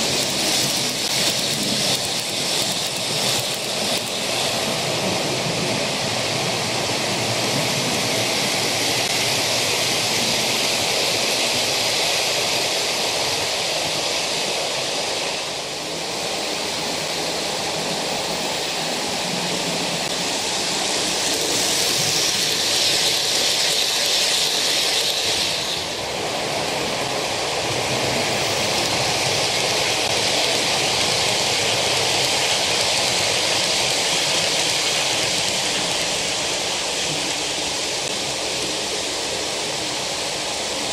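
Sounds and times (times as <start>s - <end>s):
model train wheels on rails: 0.0s - 40.9s.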